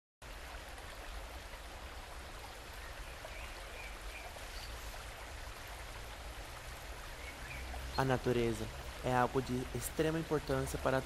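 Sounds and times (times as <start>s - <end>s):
running water: 0.2s - 11.0s.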